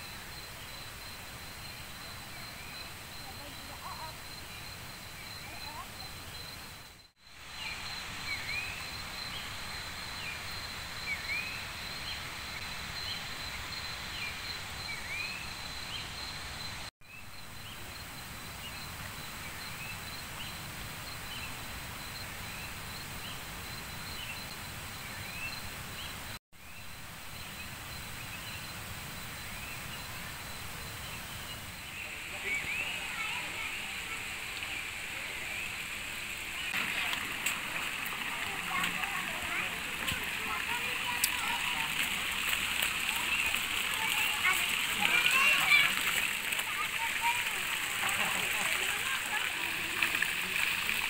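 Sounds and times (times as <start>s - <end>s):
steady hiss: 0.0s - 51.0s.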